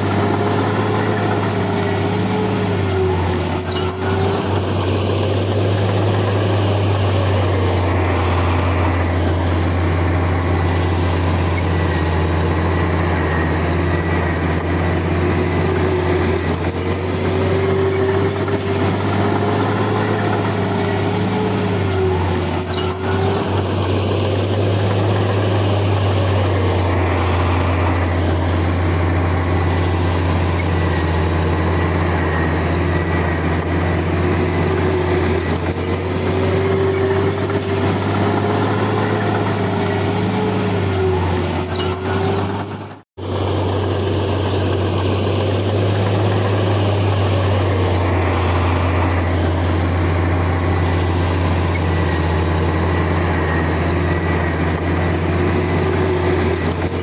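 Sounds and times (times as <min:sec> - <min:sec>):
bulldozer diesel engine droning: 0:00.0 - 0:57.0
thin engine whine: 0:00.0 - 0:57.0.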